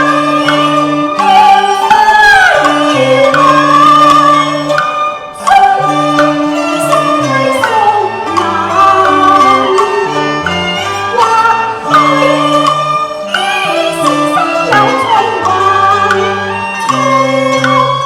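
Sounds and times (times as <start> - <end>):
bowed string melody with sliding notes: 0.0 - 18.0.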